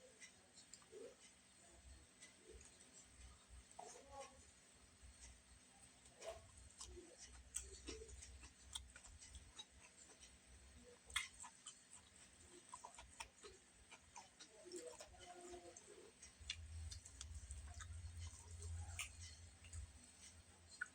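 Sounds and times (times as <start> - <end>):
chewing clicks and smacks: 0.2 - 1.4, 5.2 - 20.9.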